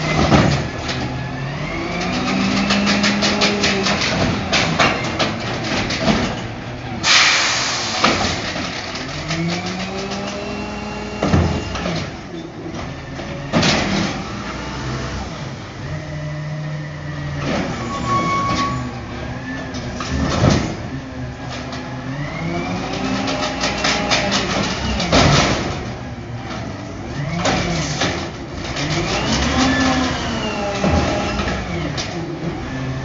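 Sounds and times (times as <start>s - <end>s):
truck engine revving: 0.0s - 12.2s, 13.8s - 33.0s.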